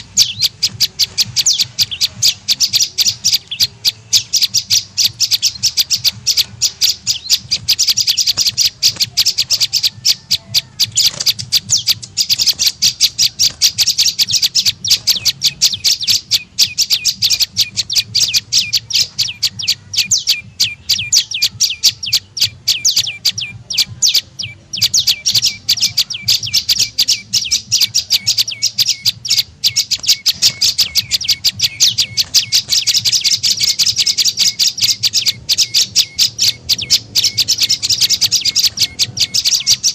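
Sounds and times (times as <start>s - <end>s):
songbird sharp high chirps: 0.0s - 39.9s.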